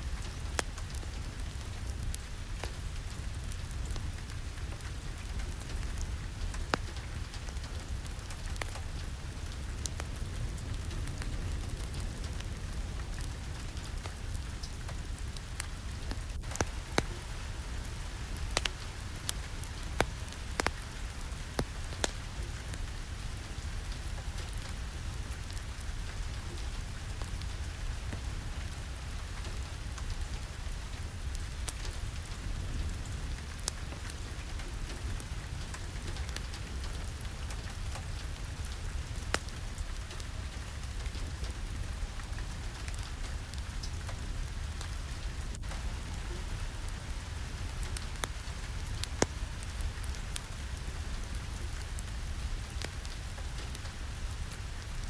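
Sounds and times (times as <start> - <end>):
steady rain: 0.0 - 55.0
wood fire crackling: 0.0 - 55.0.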